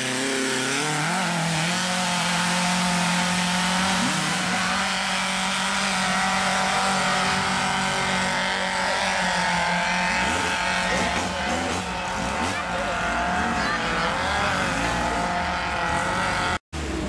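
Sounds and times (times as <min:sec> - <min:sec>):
buggy engine at high revs: 0:00.0 - 0:17.0.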